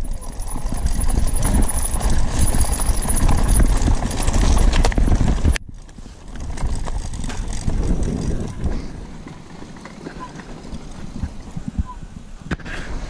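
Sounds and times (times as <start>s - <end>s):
bike rattles and clicks: 0.0s - 12.7s
bicycle rumbling over rough track: 0.0s - 13.0s.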